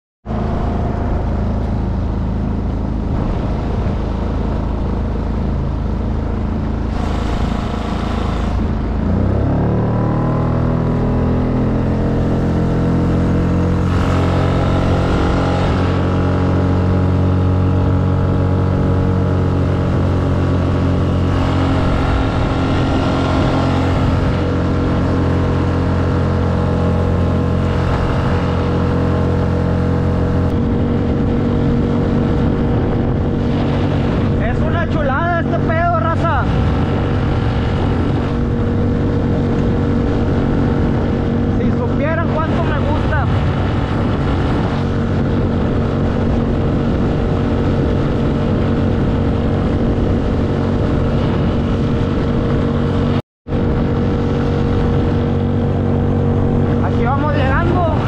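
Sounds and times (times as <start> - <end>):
outboard motor running: 0.2 - 58.0.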